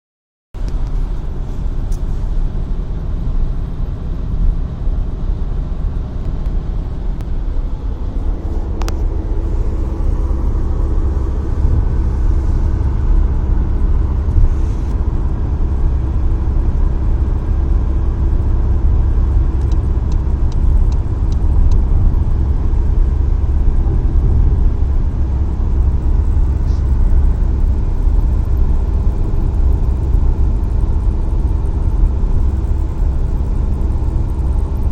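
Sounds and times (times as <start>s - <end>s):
car engine and road rumble: 0.6s - 34.9s.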